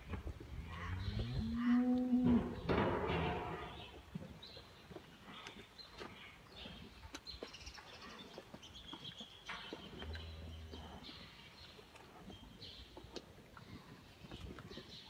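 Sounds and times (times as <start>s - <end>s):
cows shuffling clicks and knocks: 0.0s - 15.0s.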